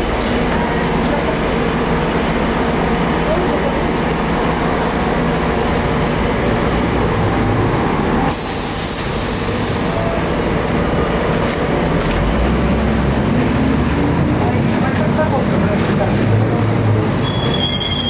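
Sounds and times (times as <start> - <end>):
tram rumbling on rails: 0.0 - 18.0.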